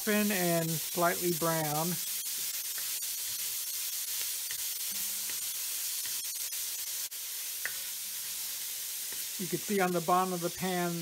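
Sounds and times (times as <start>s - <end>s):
vegetables sizzling in fat: 0.0s - 11.0s.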